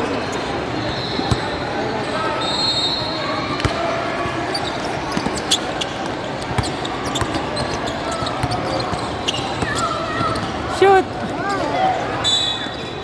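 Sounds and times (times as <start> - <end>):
crowd chatter in echoing hall: 0.0 - 13.0.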